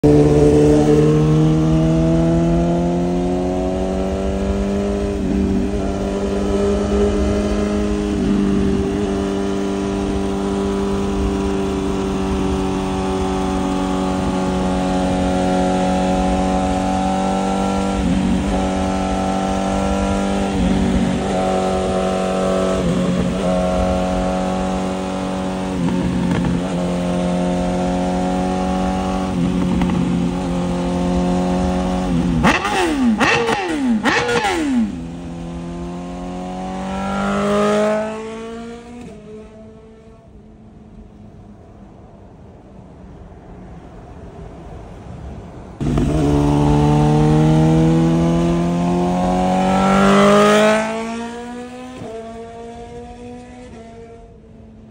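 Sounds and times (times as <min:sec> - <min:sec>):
motorcycle engine revving: 0:00.0 - 0:40.3, 0:45.8 - 0:54.4.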